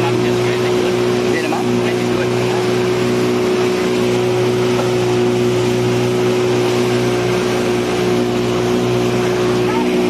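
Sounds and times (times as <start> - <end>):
outboard motor running: 0.0 - 10.0
water and wind rushing: 0.0 - 10.0.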